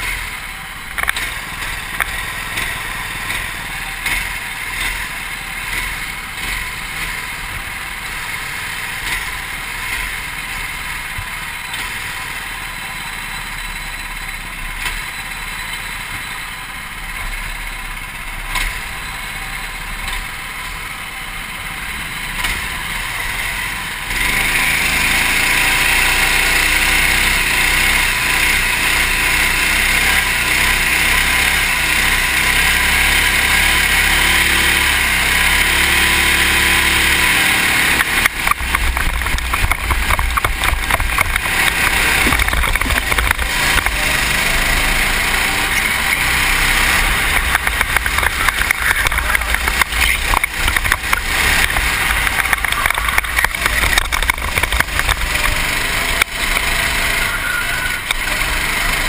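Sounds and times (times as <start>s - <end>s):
go-kart engine revving hard: 0.0s - 59.0s
go-kart engines running: 0.0s - 59.0s.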